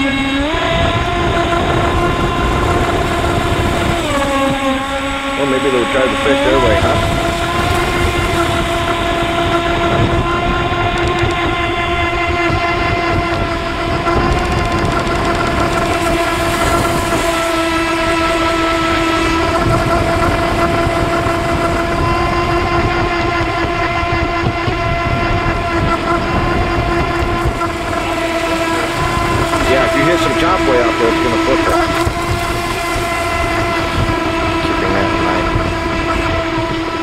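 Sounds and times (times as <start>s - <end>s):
electric motor whine: 0.0s - 37.0s
water splashing against hull: 0.0s - 37.0s.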